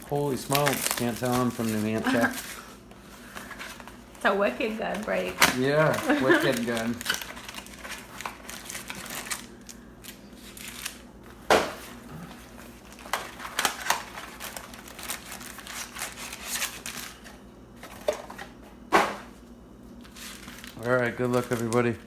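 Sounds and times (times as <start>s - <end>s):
cards and packaging rustling: 0.0s - 19.4s, 20.0s - 22.0s.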